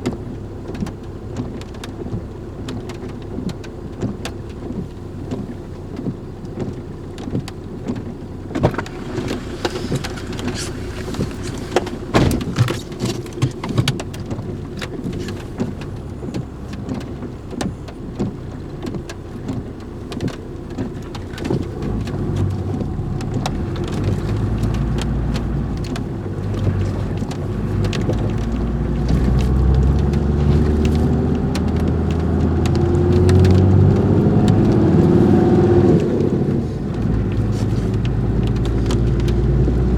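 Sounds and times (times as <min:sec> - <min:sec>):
engine rumble: 0:00.0 - 0:39.9
ticks and taps on vehicle: 0:00.0 - 0:39.9.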